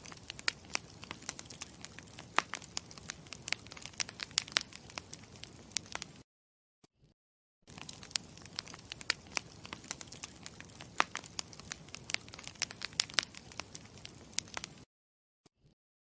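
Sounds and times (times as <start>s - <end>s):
wood fire crackling: 0.0s - 6.2s, 7.7s - 14.8s.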